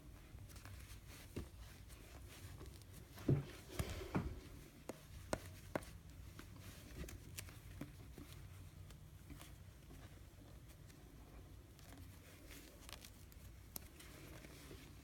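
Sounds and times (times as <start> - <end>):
crochet hook and yarn rustling: 0.0 - 15.0.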